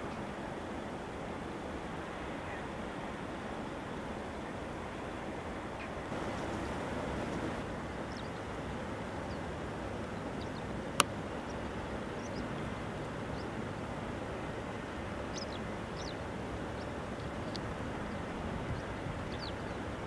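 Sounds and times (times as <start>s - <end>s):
distant helicopter rotor noise: 0.0s - 20.0s.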